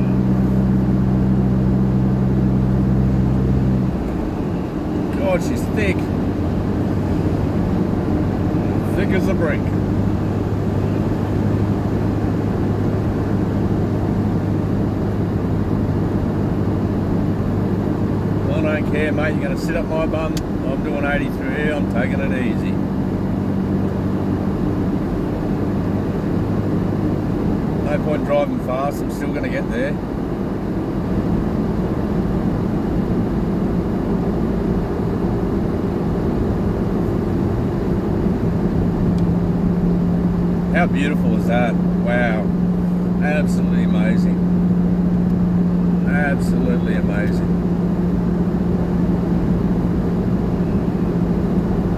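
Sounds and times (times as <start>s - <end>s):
car engine and tyres cruising: 0.0s - 51.9s.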